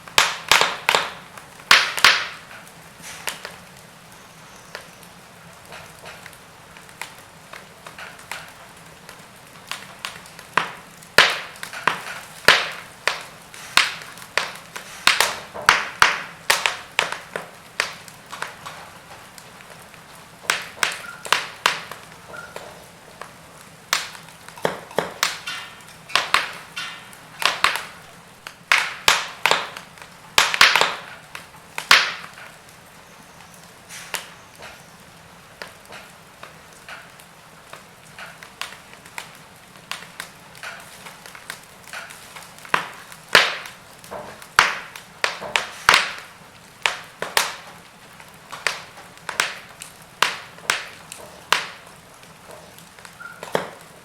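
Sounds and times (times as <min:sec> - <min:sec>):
faint steady hiss: 0:00.0 - 0:54.0
logs crackling in a fireplace: 0:00.0 - 0:54.0.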